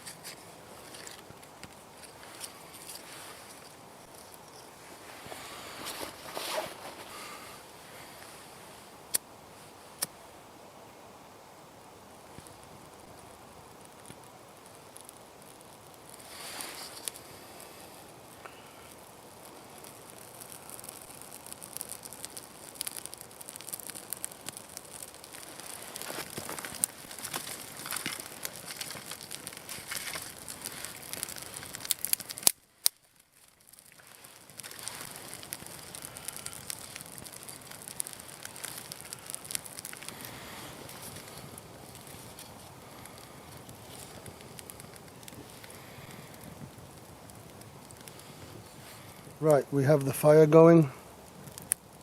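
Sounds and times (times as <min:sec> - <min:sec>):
campfire crackling and popping: 0:00.0 - 0:52.0
low hiss: 0:00.0 - 0:52.0.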